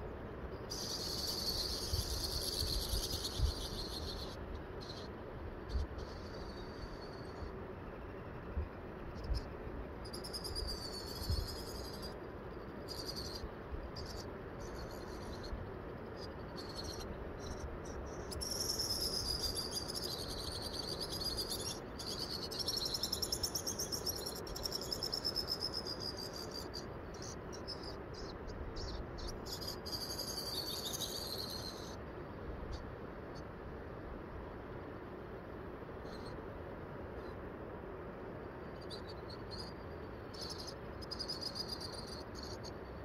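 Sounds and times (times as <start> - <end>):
insects trilling: 0.0 - 33.5, 35.4 - 36.4, 38.5 - 43.0.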